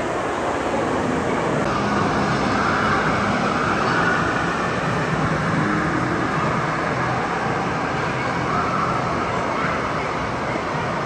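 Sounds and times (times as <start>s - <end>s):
low engine hum: 0.0s - 11.0s
traffic noise: 0.0s - 11.0s.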